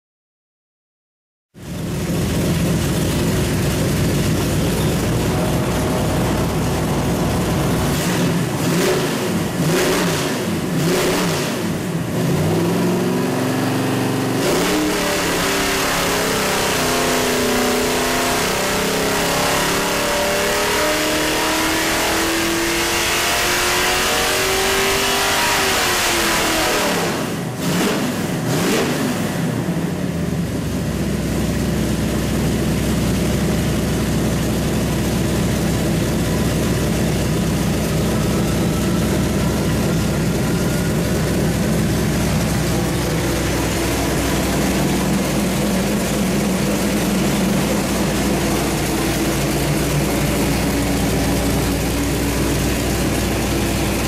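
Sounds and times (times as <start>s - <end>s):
car engine revving on dyno: 1.7s - 30.6s, 32.3s - 54.0s.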